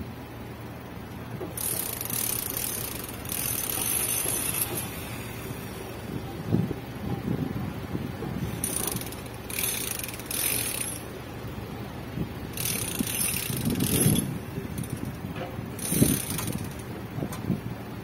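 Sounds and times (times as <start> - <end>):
cars and truck driving by: 0.0 - 18.0.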